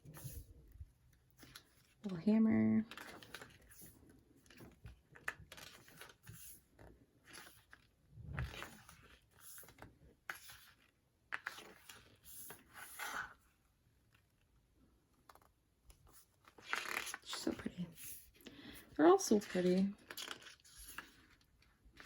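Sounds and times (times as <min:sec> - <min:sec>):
paper rustling and crinkling: 0:02.9 - 0:18.4, 0:19.2 - 0:22.0.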